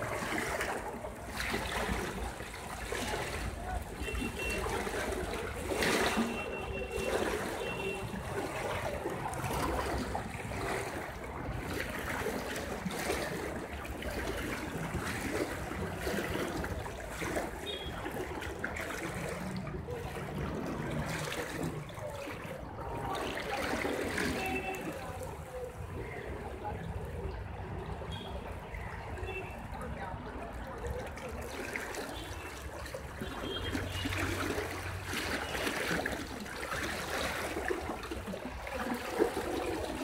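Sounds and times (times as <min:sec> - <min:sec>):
floodwater rushing and splashing: 0:00.0 - 0:40.0.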